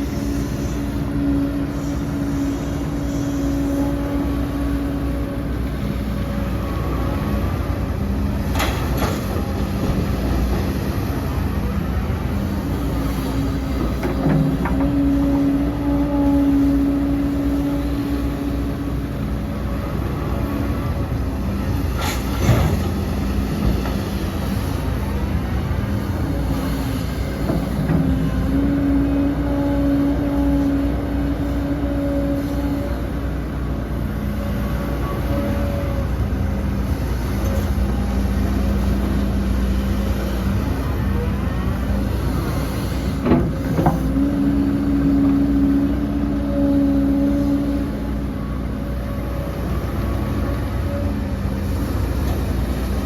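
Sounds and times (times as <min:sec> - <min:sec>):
heavy diesel machinery running: 0:00.0 - 0:53.0
machinery whine: 0:00.0 - 0:53.0.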